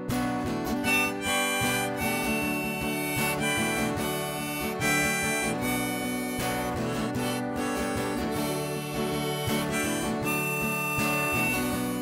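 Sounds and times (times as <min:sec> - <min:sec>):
instrumental music: 0:00.0 - 0:12.0.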